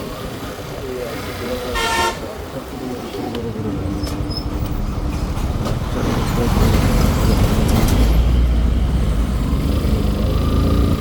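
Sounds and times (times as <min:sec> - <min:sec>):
road traffic and engines: 0:00.0 - 0:11.0.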